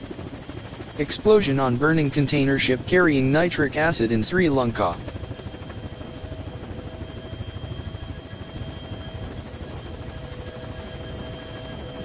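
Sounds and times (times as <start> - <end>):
helicopter rotor throb: 0.0 - 12.0
faint engine whine: 0.9 - 12.0.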